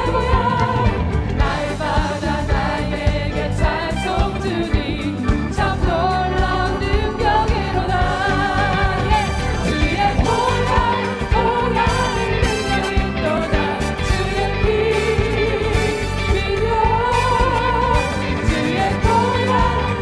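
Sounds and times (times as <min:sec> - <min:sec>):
drum strikes: 0:00.0 - 0:19.8
choir singing praise song: 0:00.0 - 0:20.0
steady bass: 0:00.0 - 0:20.0.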